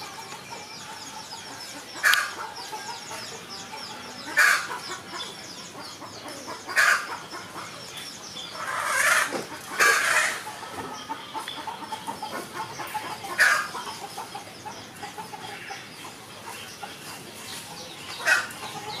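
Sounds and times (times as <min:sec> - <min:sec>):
birds calling: 0:00.0 - 0:19.0
sharp bird calls: 0:00.0 - 0:19.0.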